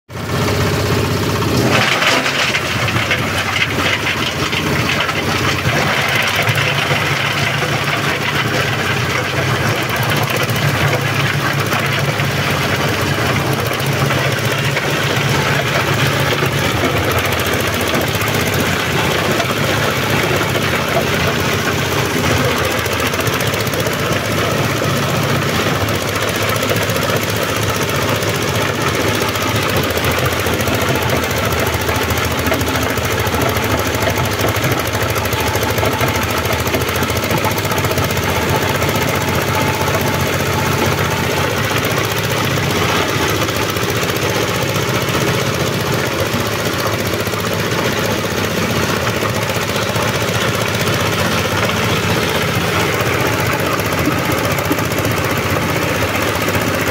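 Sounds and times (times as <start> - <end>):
diesel engine running: 0.1 - 56.9
shredder grinding waste: 0.1 - 56.9.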